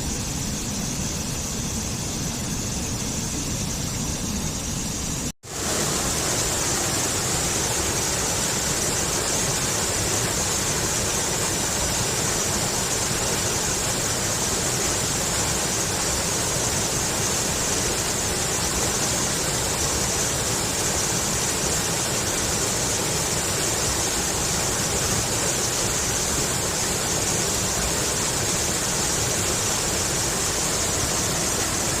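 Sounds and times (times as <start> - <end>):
flowing water rushing: 5.4 - 32.0.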